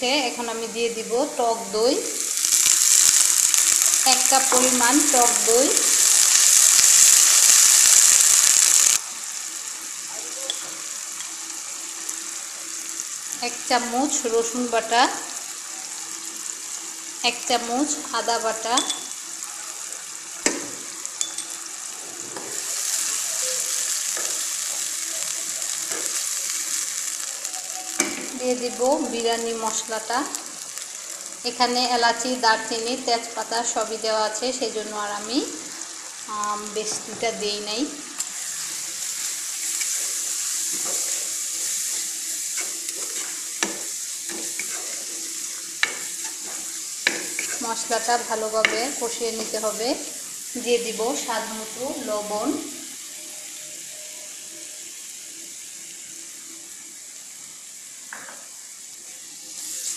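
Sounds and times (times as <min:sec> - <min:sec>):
food sizzling in hot oil: 0:00.0 - 0:59.9.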